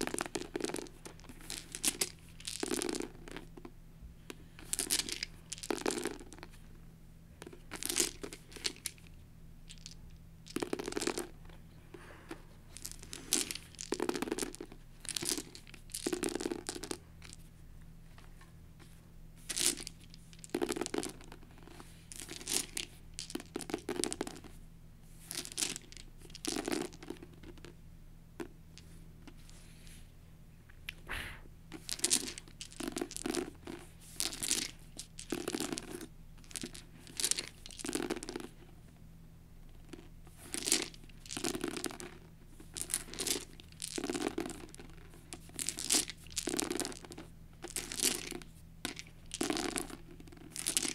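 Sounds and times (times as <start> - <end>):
dice clattering onto book cover: 0.0 - 6.6, 7.4 - 11.6, 12.3 - 17.5, 19.4 - 24.6, 25.2 - 27.8, 31.7 - 38.6, 39.8 - 50.9
dice rattled in hand: 0.0 - 6.7, 7.4 - 11.5, 12.3 - 17.5, 19.4 - 27.8, 31.7 - 38.7, 39.6 - 50.9
faint steady hum: 0.0 - 50.9.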